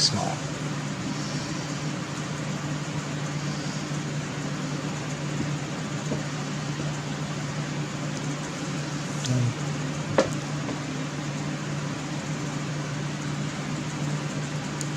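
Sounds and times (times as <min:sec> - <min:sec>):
appliance motor humming: 0:00.0 - 0:14.9.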